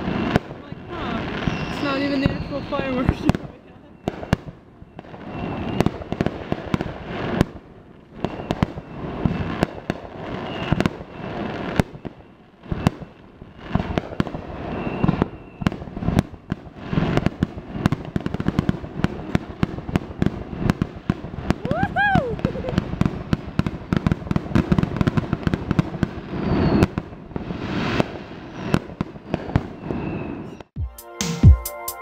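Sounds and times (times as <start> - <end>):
fireworks bangs and crackles: 0.0 - 30.8.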